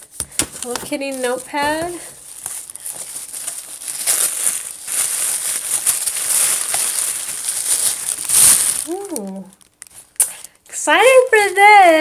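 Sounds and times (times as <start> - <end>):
tissue paper crinkling: 0.0 - 12.0.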